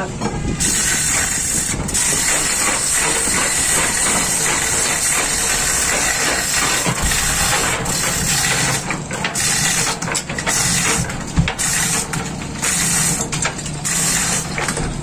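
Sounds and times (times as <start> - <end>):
steady hum: 0.0 - 15.0
chain hoist ratcheting: 0.6 - 15.0.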